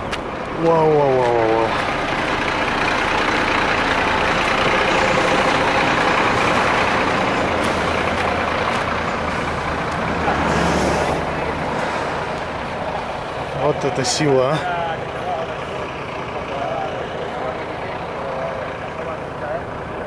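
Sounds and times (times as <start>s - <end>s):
bus engine running: 0.0s - 20.0s.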